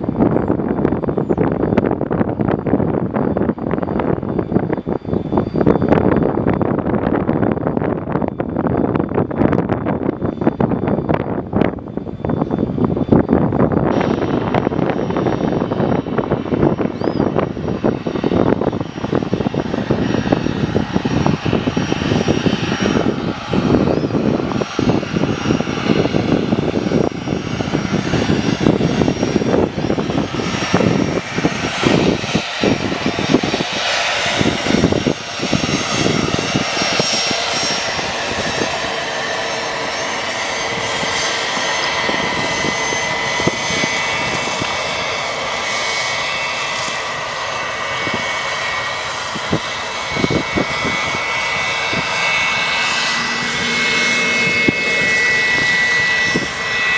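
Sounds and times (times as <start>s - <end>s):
aircraft engines running: 0.0s - 56.9s.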